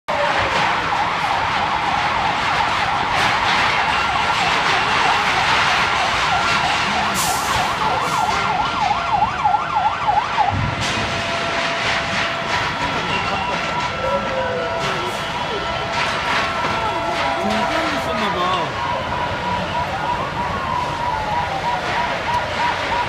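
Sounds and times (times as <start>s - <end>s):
emergency vehicle siren: 0.1s - 23.0s
loud steady background noise: 0.1s - 23.0s.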